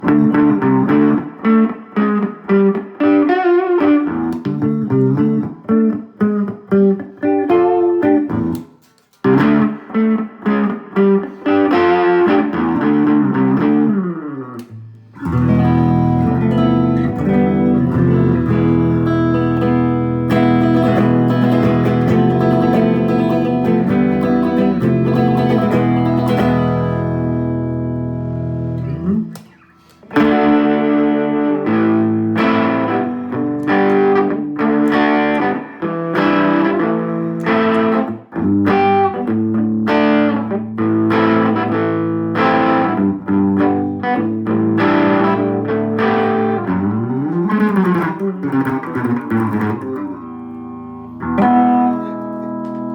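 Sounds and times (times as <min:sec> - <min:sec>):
electric guitar playing: 0:00.0 - 0:52.9.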